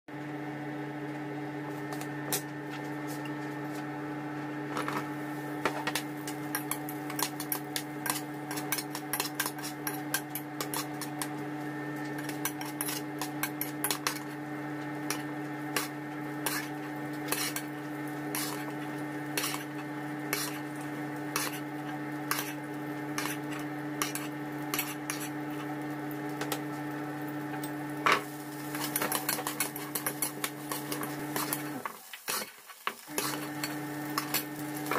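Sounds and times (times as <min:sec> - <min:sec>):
steady hum: 0:00.2 - 0:31.9, 0:33.1 - 0:34.9.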